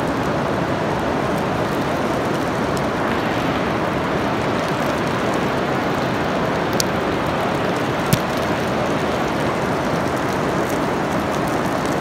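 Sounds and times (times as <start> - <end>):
heavy rain pouring: 0.0 - 12.0
raindrops ticking close by: 0.0 - 12.0.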